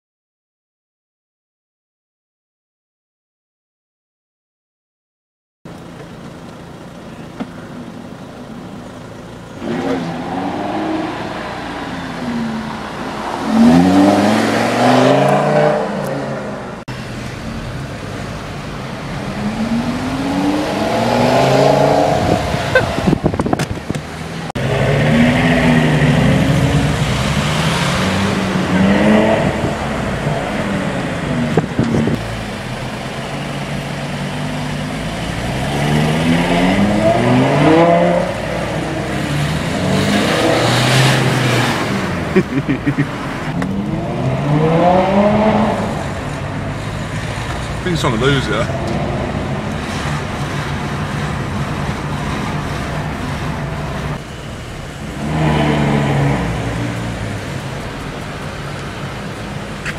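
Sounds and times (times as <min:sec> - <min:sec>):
sports car accelerating hard: 0:09.5 - 0:59.9.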